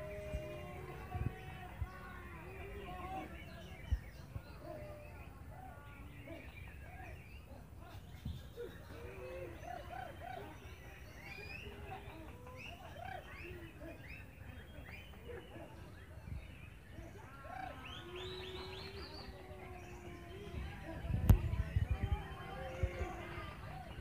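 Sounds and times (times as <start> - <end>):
songbirds chirping and whistling: 0.0 - 24.0.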